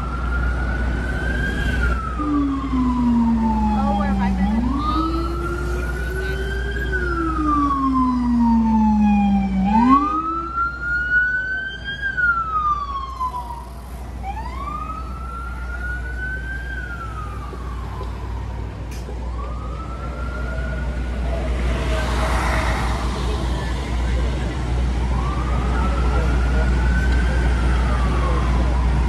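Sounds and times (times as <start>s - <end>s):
lower-pitched siren wailing: 0.0s - 22.5s, 24.9s - 29.0s
emergency siren wailing: 0.0s - 29.0s
low traffic rumble: 0.0s - 29.0s.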